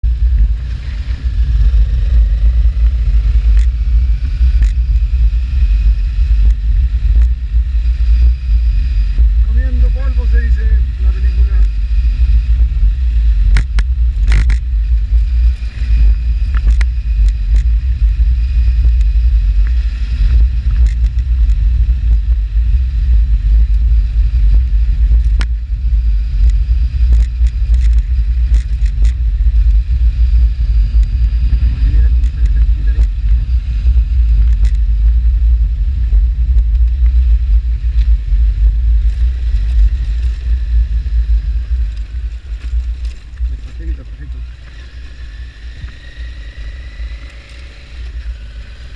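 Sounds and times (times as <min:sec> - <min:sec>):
motorcycle engine running: 0:00.0 - 0:48.9
wind rumble on microphone: 0:00.0 - 0:48.9.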